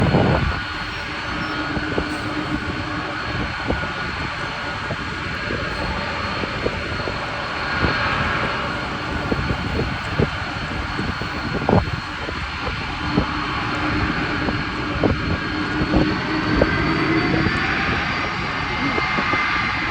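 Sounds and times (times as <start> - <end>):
jet engines roaring: 0.0 - 19.9
thin high engine whine: 0.0 - 19.9.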